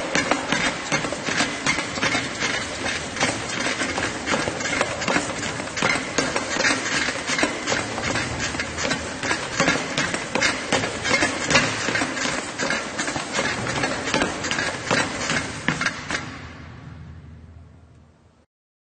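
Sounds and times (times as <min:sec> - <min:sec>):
footfalls on treadmill: 0:00.0 - 0:16.5
treadmill motor and belt: 0:00.0 - 0:17.0.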